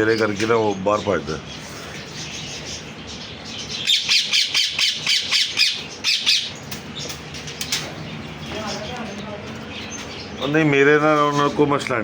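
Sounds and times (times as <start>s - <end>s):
parrots squawking: 0.0s - 10.6s.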